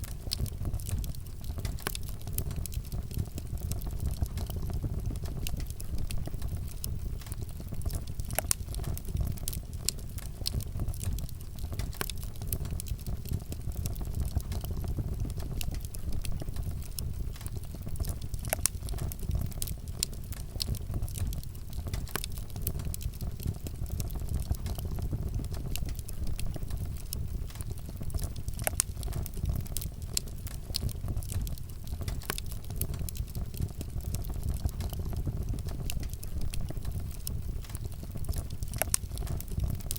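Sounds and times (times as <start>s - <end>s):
burning wood crackling and popping: 0.0s - 39.9s
low rumble of flame: 0.0s - 39.9s.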